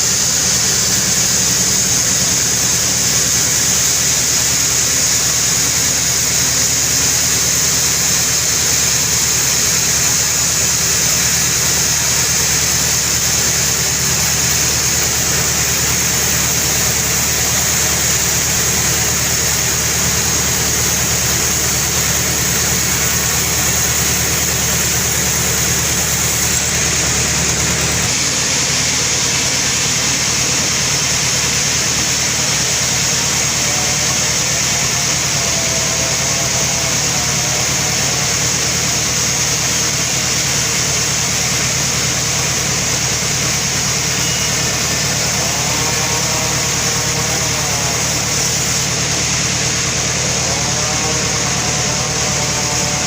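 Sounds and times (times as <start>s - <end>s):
sawmill sawing a log: 0.0s - 53.0s.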